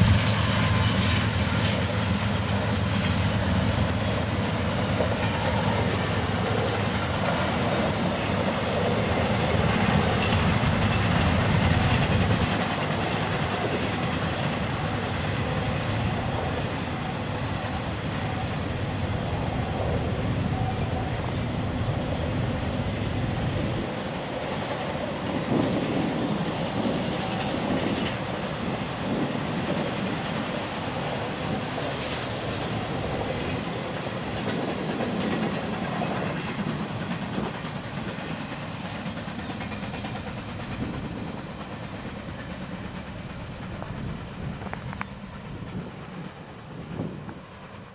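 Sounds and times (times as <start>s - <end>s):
rattle of train cars: 0.0s - 47.9s
train wheels clacking on rails: 0.0s - 47.9s.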